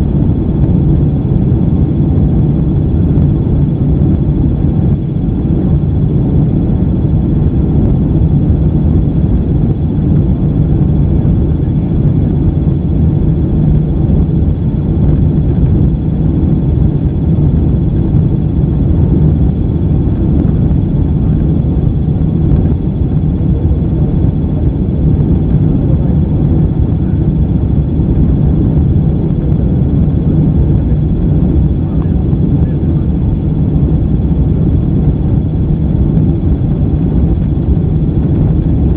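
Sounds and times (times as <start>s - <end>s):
jet engines roaring in cabin: 0.0s - 38.9s
steady low hum: 0.0s - 38.9s.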